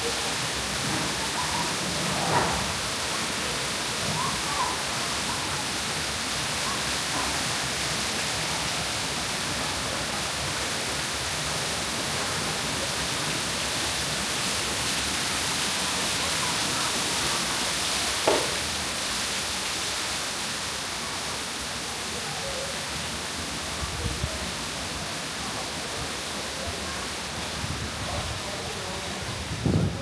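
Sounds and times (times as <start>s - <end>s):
falling water rushing: 0.0s - 30.0s.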